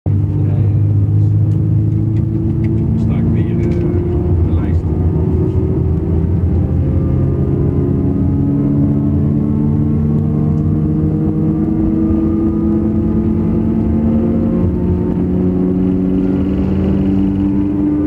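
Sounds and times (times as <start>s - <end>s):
whining drive tones: 0.1s - 18.0s.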